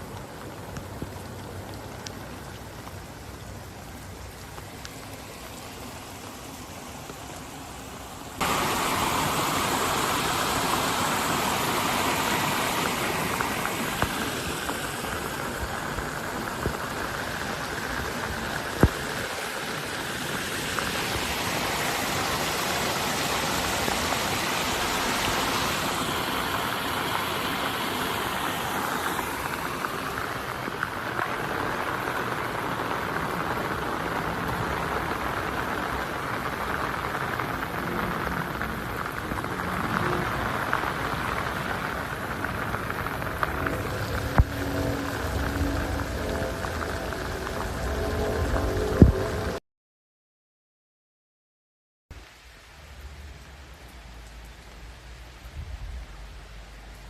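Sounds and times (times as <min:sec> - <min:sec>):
heavy rain: 0:00.0 - 0:49.6, 0:52.1 - 0:57.0
rushing floodwater: 0:00.0 - 0:49.6.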